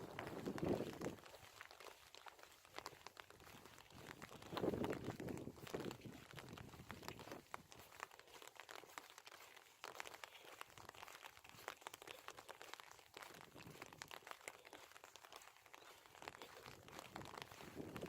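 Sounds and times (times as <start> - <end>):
light rain crackling: 0.0 - 18.0.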